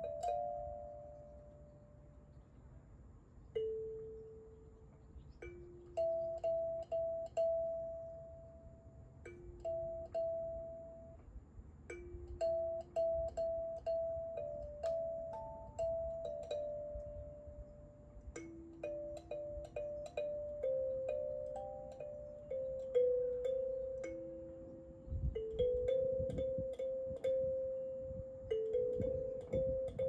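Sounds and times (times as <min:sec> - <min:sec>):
kalimba notes plucked: 0:00.0 - 0:02.3, 0:03.5 - 0:11.2, 0:11.8 - 0:30.0.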